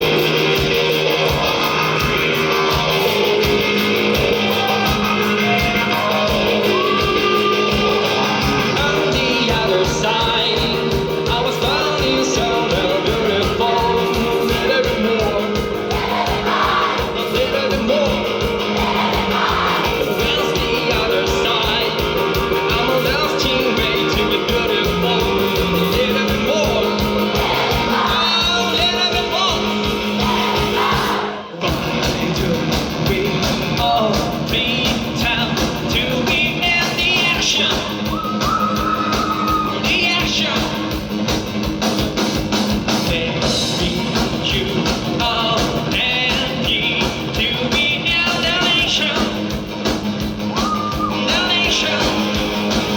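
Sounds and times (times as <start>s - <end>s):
person singing: 0.0s - 40.9s, 50.6s - 52.9s
fast drum beat: 0.0s - 52.9s
live rock band playing: 0.0s - 52.9s.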